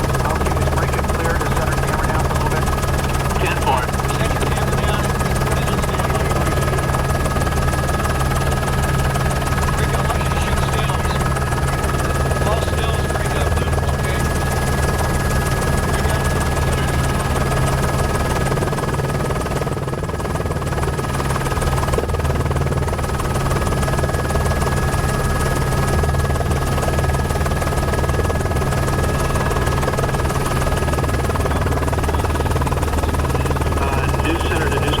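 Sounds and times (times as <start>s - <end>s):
helicopter rotor drone: 0.0s - 35.0s.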